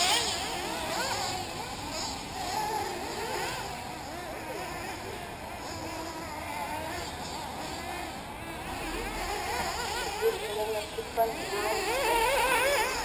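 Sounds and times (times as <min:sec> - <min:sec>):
rc car engines revving: 0:00.0 - 0:13.0.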